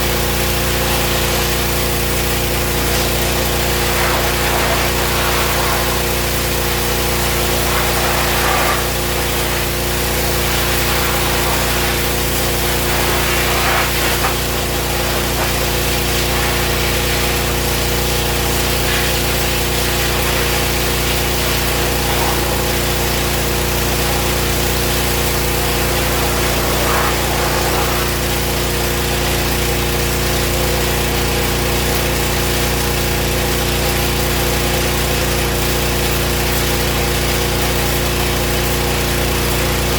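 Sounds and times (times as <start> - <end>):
motor running steadily: 0.0 - 39.9.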